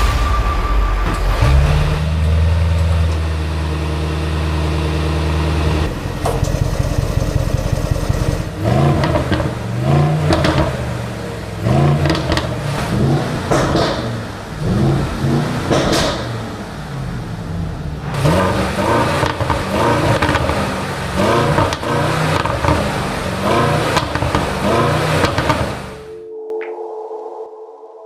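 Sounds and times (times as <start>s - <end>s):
car engine revving: 0.0s - 26.1s
car engine idling: 0.8s - 26.1s.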